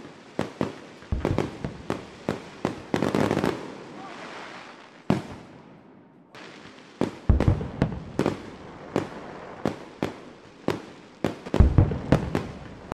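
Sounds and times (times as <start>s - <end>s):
fireworks bangs and pops: 0.0s - 5.6s, 6.3s - 13.0s
steady hiss: 0.0s - 5.8s, 6.4s - 12.9s.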